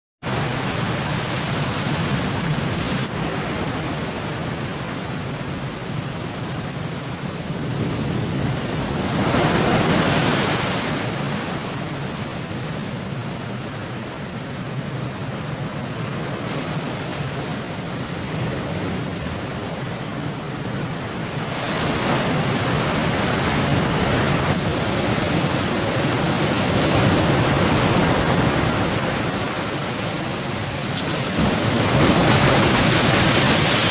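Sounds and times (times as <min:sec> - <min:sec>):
rough sea waves: 0:00.2 - 0:33.9
strong wind: 0:00.2 - 0:33.9.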